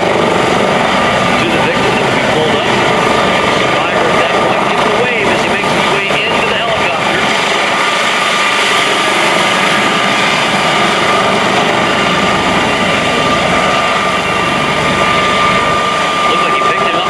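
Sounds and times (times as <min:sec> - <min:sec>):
helicopter turbine and rotor: 0:00.0 - 0:17.0.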